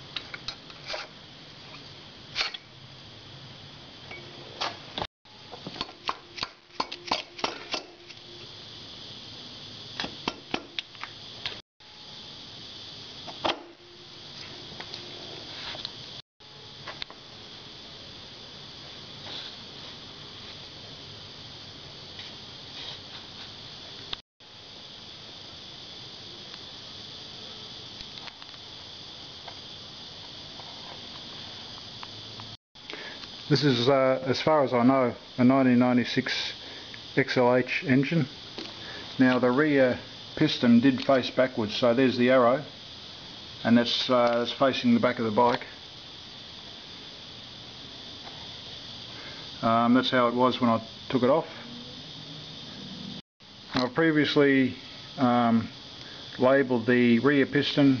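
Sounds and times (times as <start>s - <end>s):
high-pitched insect drone: 5.3s - 58.0s.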